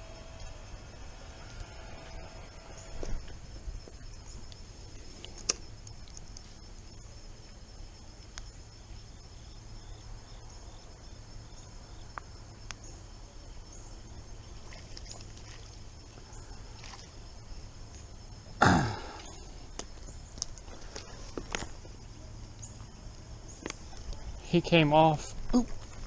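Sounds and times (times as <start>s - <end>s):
faint insect chirring: 0.0s - 26.0s.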